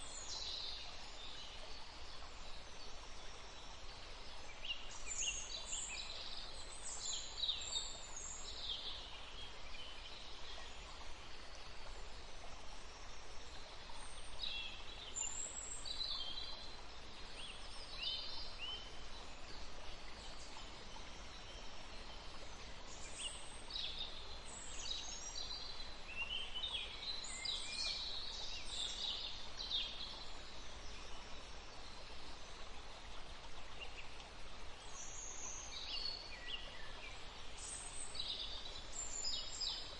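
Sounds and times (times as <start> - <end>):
forest stream rushing: 0.0 - 39.9
songbirds chirping: 0.0 - 39.9.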